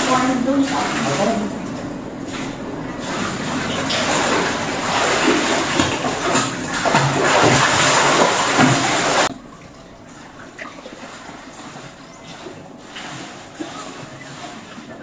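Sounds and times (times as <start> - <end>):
water gushing: 0.0 - 15.0.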